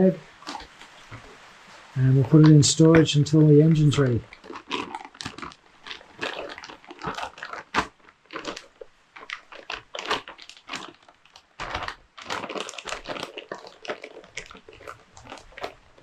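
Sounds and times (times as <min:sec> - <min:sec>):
plastic bag crinkling: 0:02.0 - 0:16.0.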